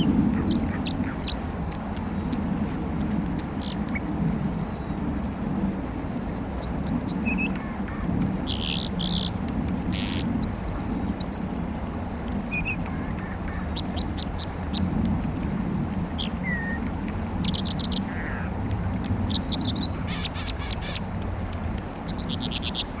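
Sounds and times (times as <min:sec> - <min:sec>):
bird singing chirps and trills: 0:00.0 - 0:05.1, 0:06.1 - 0:23.0
rush of fast stream: 0:00.0 - 0:23.0.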